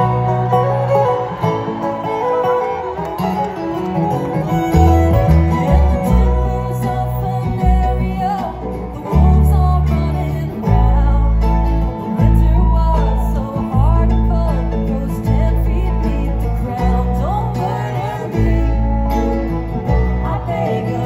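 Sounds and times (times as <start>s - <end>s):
heavy upright bass notes: 0.0s - 3.3s, 4.0s - 21.0s
bluegrass band playing: 0.0s - 21.0s.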